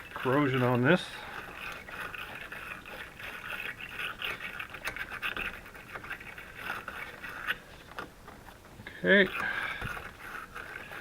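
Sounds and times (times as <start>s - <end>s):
wire brush scrubbing metal: 0.0s - 11.0s.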